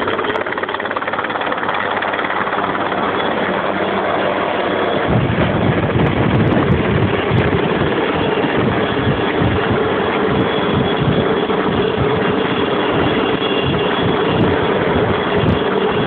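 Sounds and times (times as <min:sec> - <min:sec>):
engine roar: 0:00.0 - 0:16.0
helicopter rotor thudding: 0:00.0 - 0:16.0.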